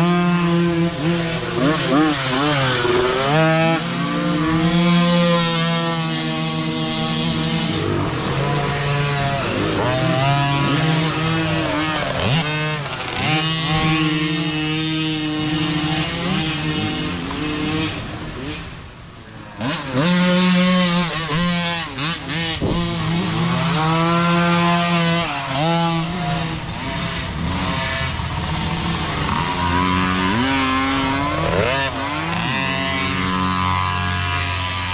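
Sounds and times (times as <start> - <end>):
dirt bike engines revving: 0.0 - 34.9
dirt bike passing close: 0.0 - 34.9.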